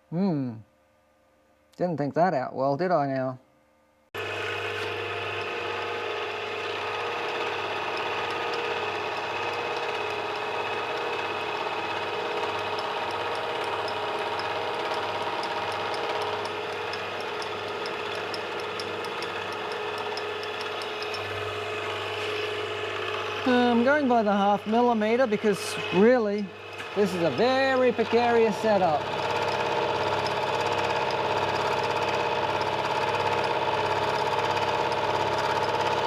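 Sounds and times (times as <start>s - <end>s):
machine tool humming: 4.2s - 36.0s.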